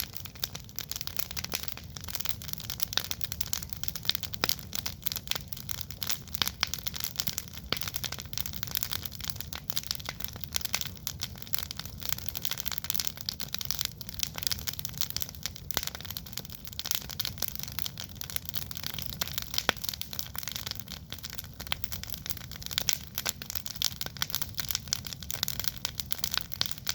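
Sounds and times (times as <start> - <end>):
campfire crackling: 0.0 - 26.9.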